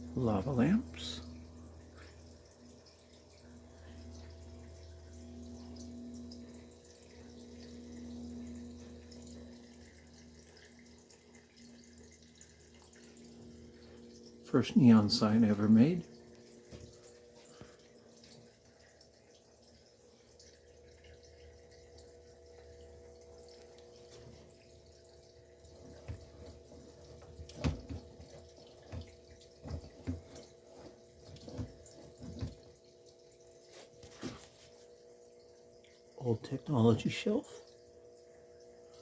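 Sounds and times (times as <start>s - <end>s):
electrical hum from neon signs: 0.0s - 39.0s.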